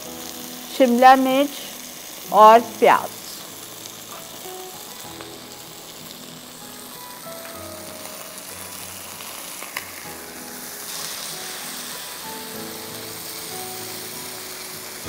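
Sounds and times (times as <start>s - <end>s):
chicken sizzling in hot oil: 0.0s - 15.0s
soft background music: 0.0s - 15.0s.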